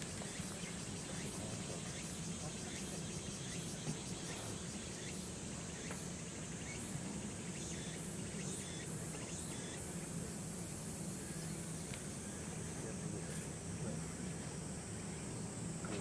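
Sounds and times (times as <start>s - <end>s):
insects calling in high pulses: 0.0s - 16.0s.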